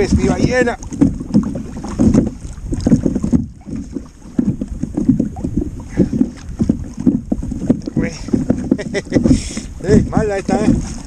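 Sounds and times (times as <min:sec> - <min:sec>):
water slapping boat hull: 0:00.0 - 0:11.0
wind buffeting microphone: 0:00.0 - 0:11.0.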